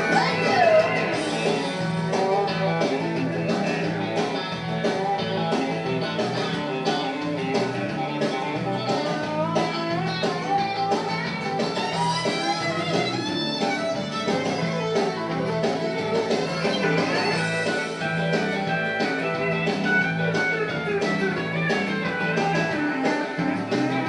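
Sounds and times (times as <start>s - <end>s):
country song with guitar: 0.0s - 24.0s.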